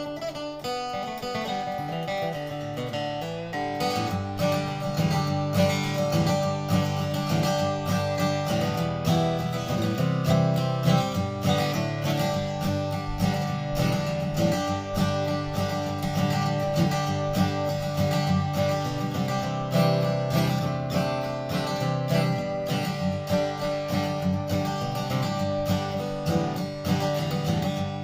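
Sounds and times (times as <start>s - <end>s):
acoustic guitar strummed chords: 0.0s - 28.0s.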